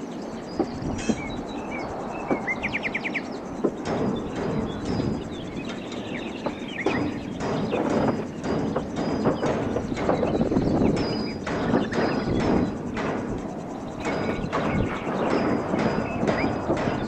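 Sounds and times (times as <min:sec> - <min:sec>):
birds chirping: 0:00.0 - 0:17.0
sharp knocks: 0:00.6 - 0:01.4, 0:03.6 - 0:17.0.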